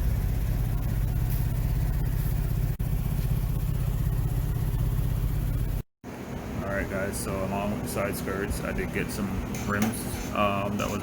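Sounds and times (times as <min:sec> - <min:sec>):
car engine running: 0:00.0 - 0:10.1.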